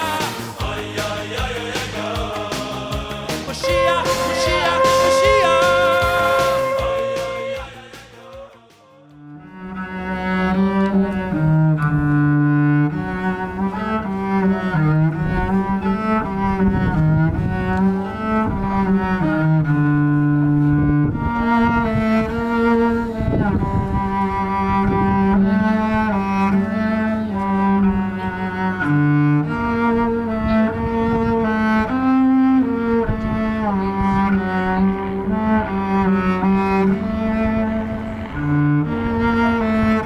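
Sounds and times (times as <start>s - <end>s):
cello playing slow melody: 3.7s - 7.6s, 9.2s - 40.0s.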